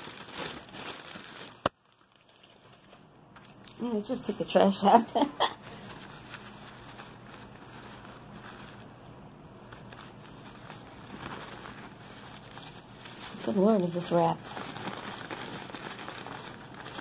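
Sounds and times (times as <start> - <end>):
paper and plastic rustling: 0.0 - 17.0.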